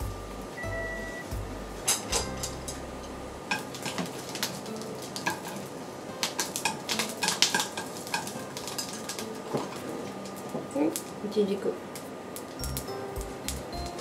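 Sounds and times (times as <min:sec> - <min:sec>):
peppers sizzling: 0:00.0 - 0:14.0
chopsticks tapping frying pan: 0:01.3 - 0:11.0, 0:12.5 - 0:14.0.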